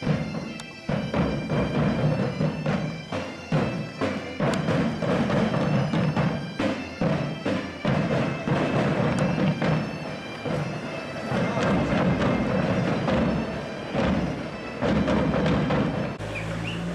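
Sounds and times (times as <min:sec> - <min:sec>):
bagpipes playing over a drone: 0:00.0 - 0:16.9.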